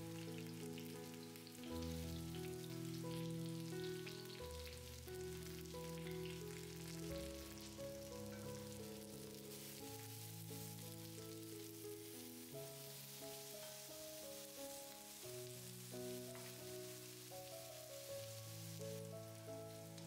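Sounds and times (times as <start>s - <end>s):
eggplant sizzling in hot oil: 0.0s - 20.0s
slow chords background music: 0.0s - 20.0s.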